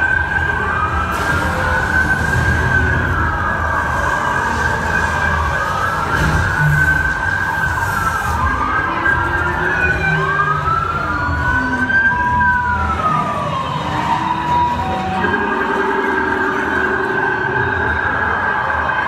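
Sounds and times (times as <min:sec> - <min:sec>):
sirens wailing: 0:00.0 - 0:19.0.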